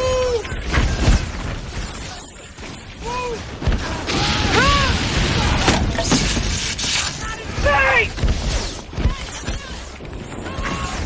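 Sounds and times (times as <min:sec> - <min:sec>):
rumble: 0:00.0 - 0:11.0.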